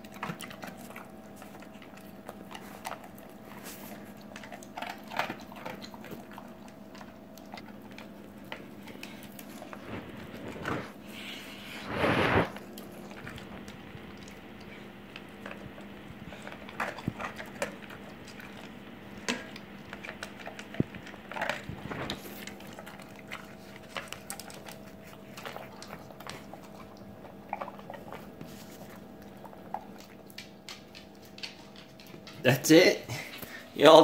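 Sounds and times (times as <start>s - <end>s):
dog chewing food from metal bowl: 0.0s - 33.6s
faint steady hum: 0.0s - 34.0s.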